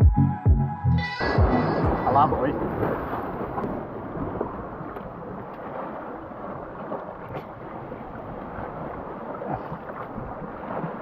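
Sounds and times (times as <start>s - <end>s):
waves splashing over rocks: 1.2s - 11.0s
wind buffeting microphone: 1.2s - 11.0s.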